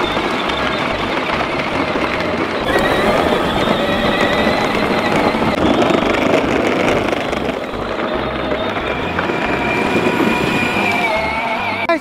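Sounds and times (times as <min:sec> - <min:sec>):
electric toy motor whine: 0:00.0 - 0:12.0
steady rushing noise: 0:00.0 - 0:12.0.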